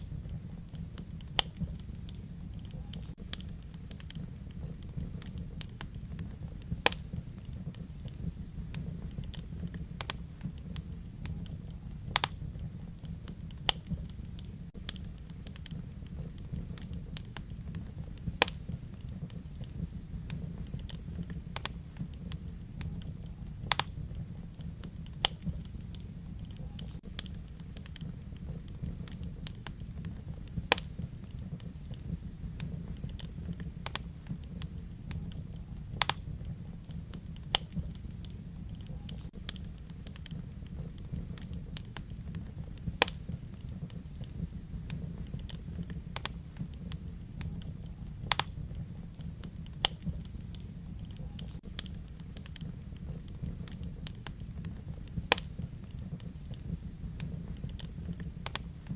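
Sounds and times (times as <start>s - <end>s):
fire crackling and popping: 0.0s - 58.9s
fire flame rumble: 0.0s - 58.9s.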